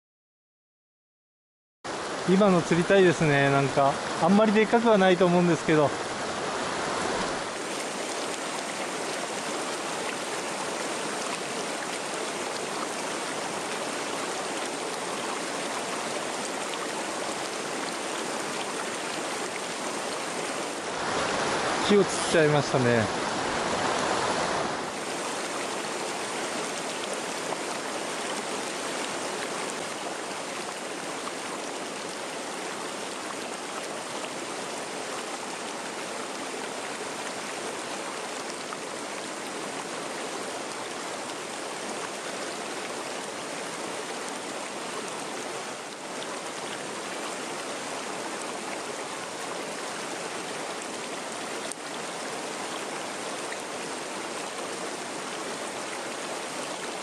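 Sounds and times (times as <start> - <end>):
stream rushing over rocks: 1.9 - 57.0.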